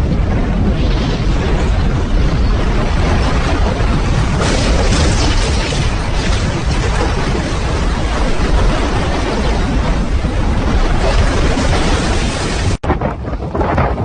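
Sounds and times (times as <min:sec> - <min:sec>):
rough ocean waves: 0:00.0 - 0:14.0
wind buffeting microphone: 0:00.0 - 0:14.0
water breaking: 0:00.6 - 0:12.8.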